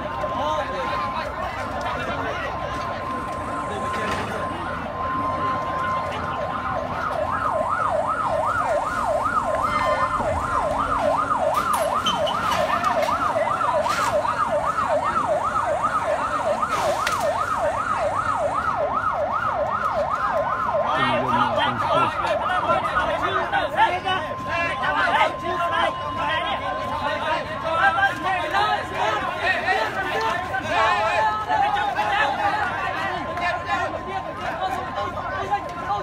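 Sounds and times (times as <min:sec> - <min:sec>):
ambulance siren yelping: 0:00.0 - 0:36.0.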